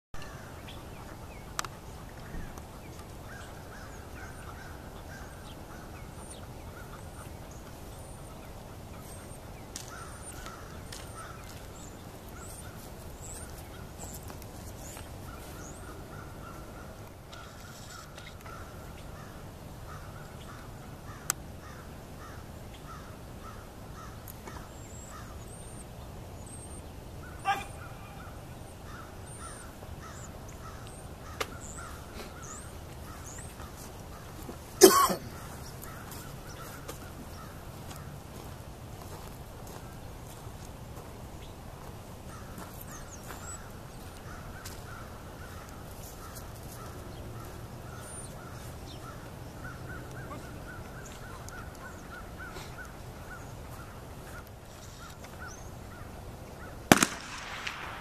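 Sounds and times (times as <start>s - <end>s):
harsh bird calls: 0.2s - 38.1s, 42.3s - 57.5s
low outdoor background: 0.2s - 58.0s.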